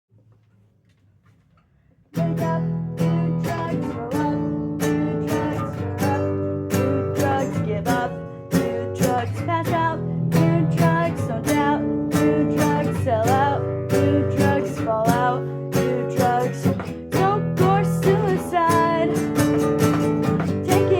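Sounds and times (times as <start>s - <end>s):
person singing: 2.2s - 20.9s
strummed acoustic guitar: 2.2s - 20.9s.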